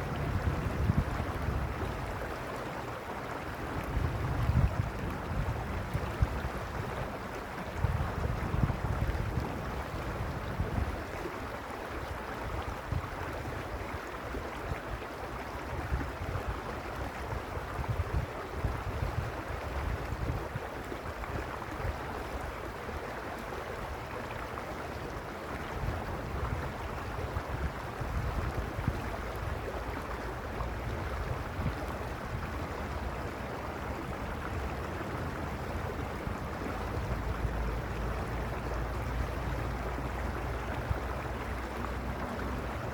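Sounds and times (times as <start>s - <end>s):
wind buffeting microphone: 0.0s - 2.3s, 3.6s - 11.3s, 15.6s - 22.8s, 23.5s - 42.9s
mountain stream rushing: 0.0s - 42.9s.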